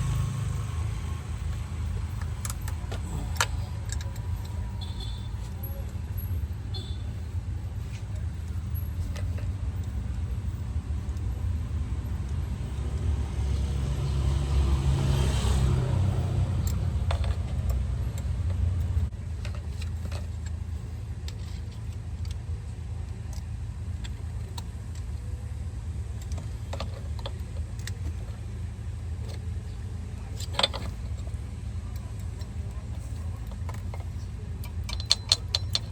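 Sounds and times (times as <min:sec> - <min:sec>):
vehicle engine rumbling: 0:00.0 - 0:35.9.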